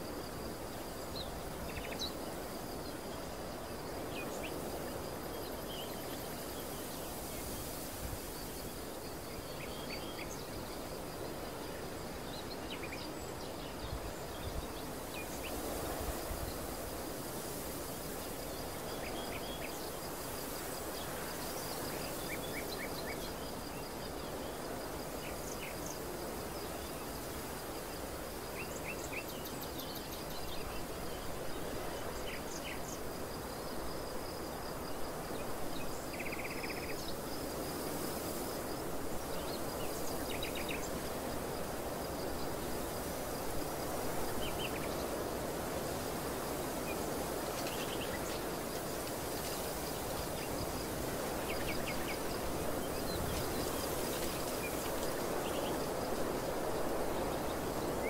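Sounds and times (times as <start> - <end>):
high-pitched insect trill: 0.0 - 58.0
steady background hiss: 0.0 - 58.0.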